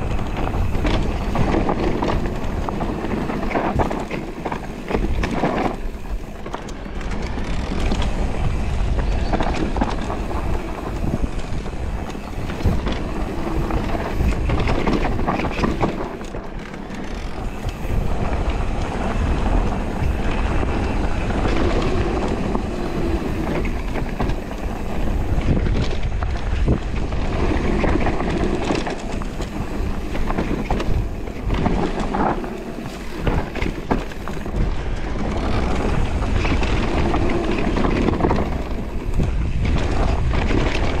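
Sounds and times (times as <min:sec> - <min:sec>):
bike rattling and knocking: 0:00.0 - 0:41.0
wind on microphone: 0:00.0 - 0:41.0.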